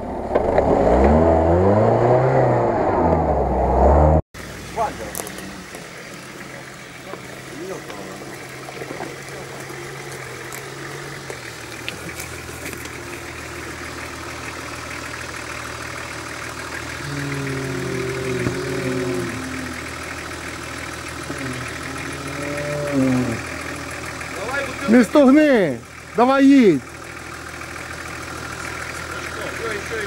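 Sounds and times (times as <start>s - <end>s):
car engine running at low revs: 0.0s - 30.0s.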